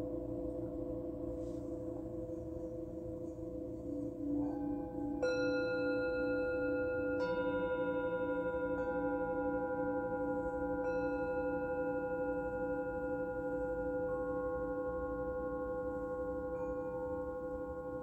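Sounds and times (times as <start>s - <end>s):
singing bowls ringing: 0.0s - 18.0s.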